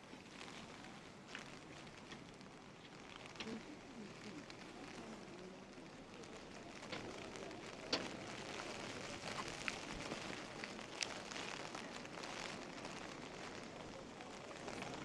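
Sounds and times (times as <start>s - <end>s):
raindrops ticking nearby: 0.0s - 15.0s
rain hissing: 0.3s - 15.0s.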